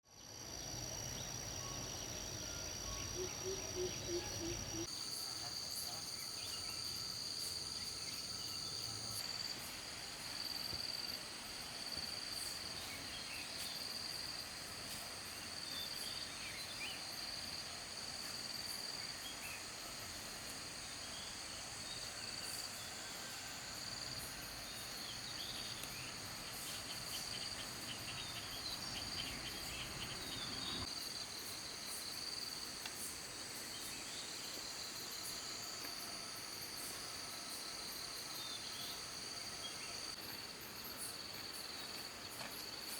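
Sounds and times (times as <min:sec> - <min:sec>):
insects chirring: 0:00.1 - 0:42.9.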